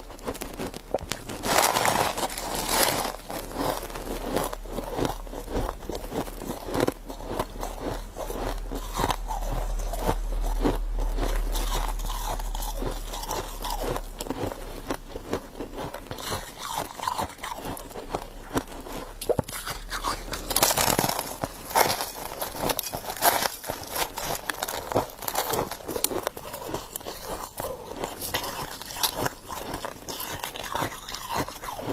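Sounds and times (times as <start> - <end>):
crunching and chewing ice: 0.0 - 31.9.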